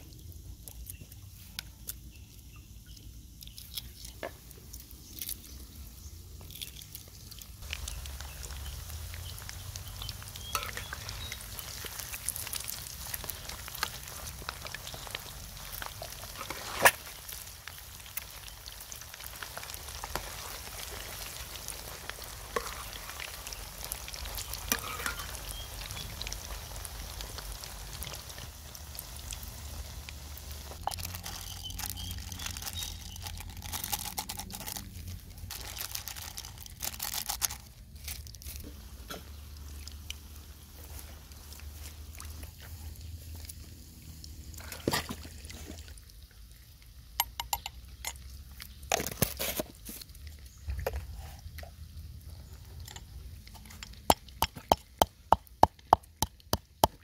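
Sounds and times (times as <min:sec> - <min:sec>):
eggs deep-frying in oil: 0:00.0 - 0:57.0.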